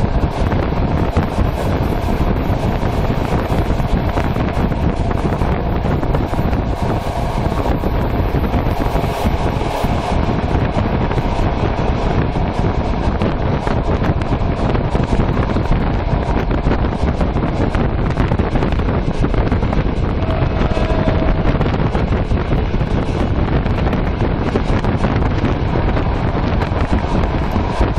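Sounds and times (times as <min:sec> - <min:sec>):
train rumbling on track: 0:00.0 - 0:27.9
wind buffeting microphone: 0:00.0 - 0:27.9.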